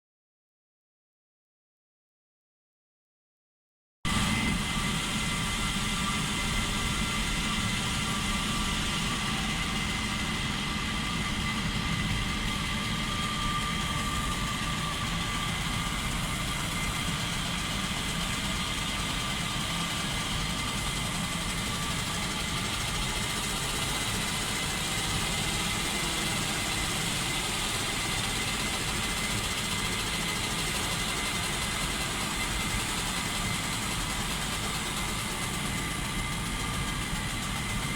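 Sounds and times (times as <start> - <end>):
machine hum with high whine: 4.1 - 37.9.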